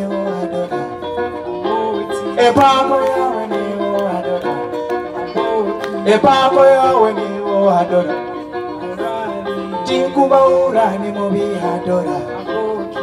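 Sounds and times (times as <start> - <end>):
plucked string instrument melody: 0.0 - 13.0.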